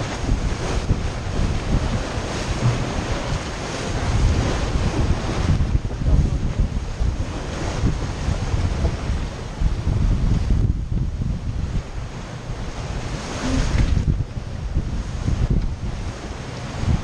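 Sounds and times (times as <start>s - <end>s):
water washing around boat: 0.0s - 17.0s
wind buffeting microphone: 0.0s - 17.0s.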